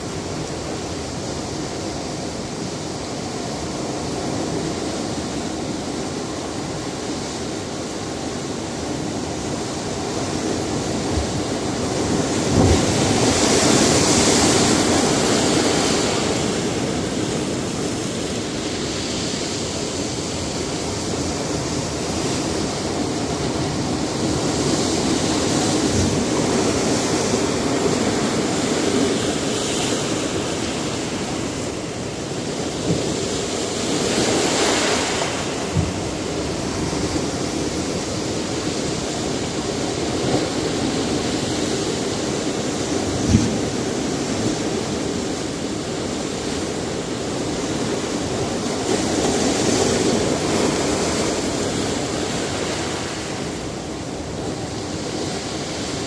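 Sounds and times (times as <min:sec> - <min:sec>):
surf washing on shore: 0:00.0 - 0:56.0
waves thudding on rocks: 0:08.8 - 0:56.0.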